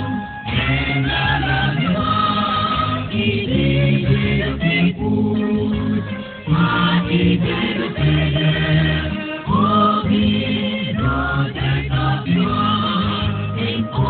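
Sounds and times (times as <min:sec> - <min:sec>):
choir singing gospel: 0:00.0 - 0:14.0.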